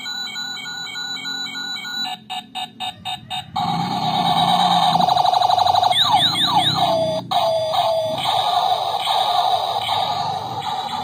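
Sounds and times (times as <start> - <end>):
toy pistol electronic sound effects: 1.9 - 11.0.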